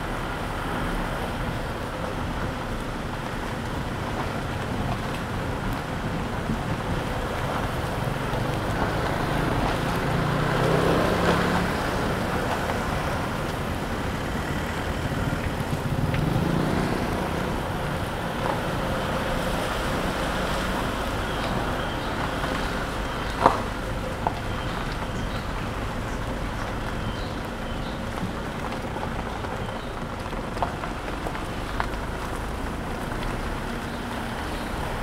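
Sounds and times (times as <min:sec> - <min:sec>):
low engine hum: 0:00.0 - 0:35.0
tyre and road noise: 0:00.0 - 0:35.0.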